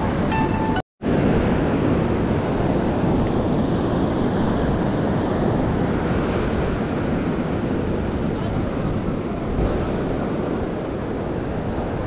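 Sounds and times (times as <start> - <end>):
waves breaking on beach: 0.0 - 12.0
wind blowing on microphone: 0.0 - 12.0.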